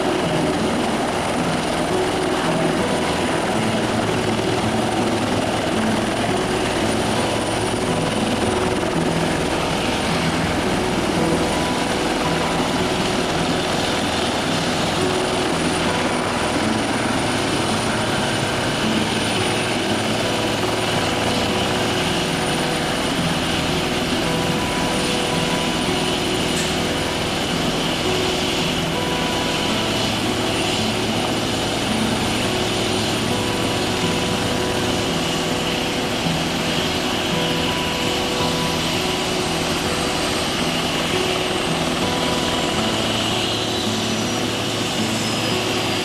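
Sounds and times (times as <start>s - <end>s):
helicopter rotor chopping: 0.0s - 46.0s
turbine whine: 0.0s - 46.0s.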